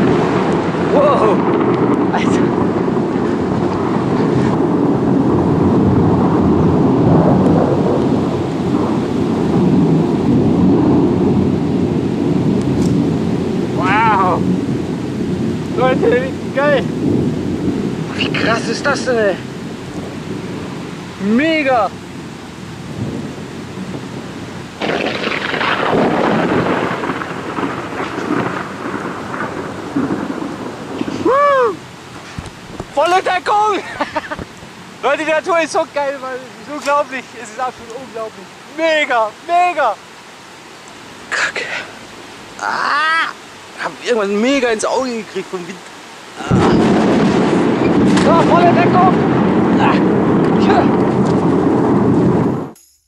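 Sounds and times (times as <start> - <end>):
thunder rumbling: 0.0 - 40.0, 42.0 - 52.8
rain hissing: 0.0 - 52.8.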